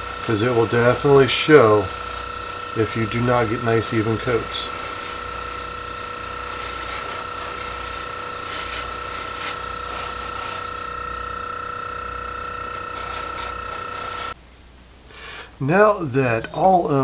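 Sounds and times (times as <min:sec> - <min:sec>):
airbrush air hiss: 0:00.0 - 0:14.4
compressor whine: 0:00.0 - 0:14.4.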